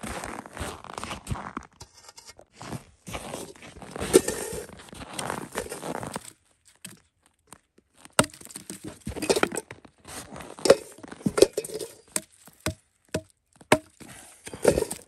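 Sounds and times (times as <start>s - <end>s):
crunching and scraping: 0.0s - 15.0s.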